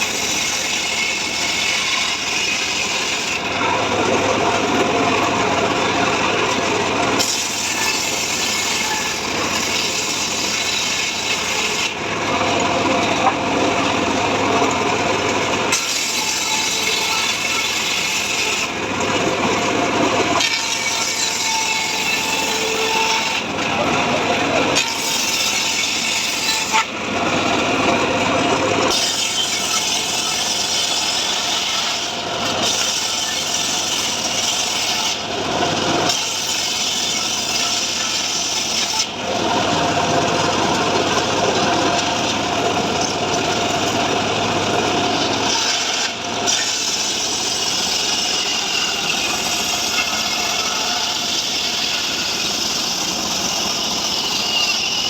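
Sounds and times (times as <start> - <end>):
sawmill blade rasping through log: 0.0 - 55.0.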